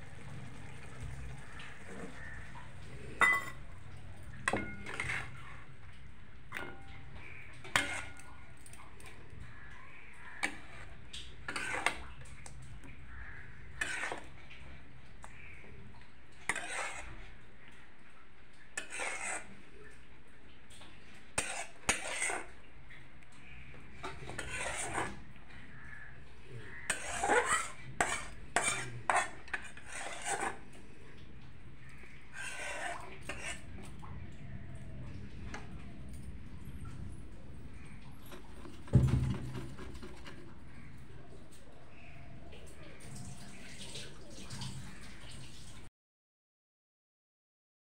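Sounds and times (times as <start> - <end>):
ladle scraping steel bowl: 0.2 - 17.8, 18.7 - 20.0, 21.0 - 22.6, 23.4 - 42.2.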